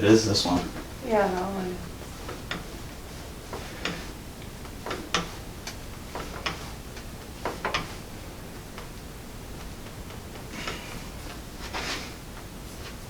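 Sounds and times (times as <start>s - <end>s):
ankle and foot joints clicking: 0.0s - 13.0s.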